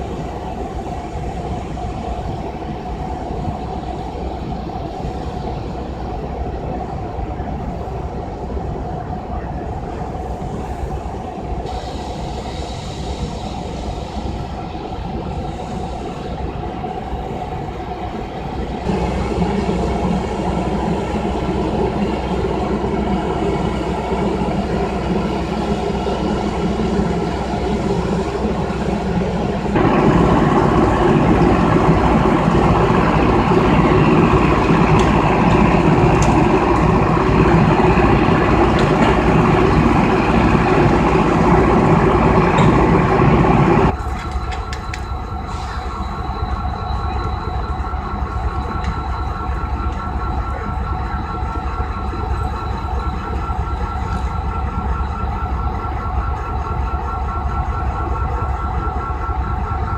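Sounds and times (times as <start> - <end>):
train engine rumble: 0.0 - 59.9.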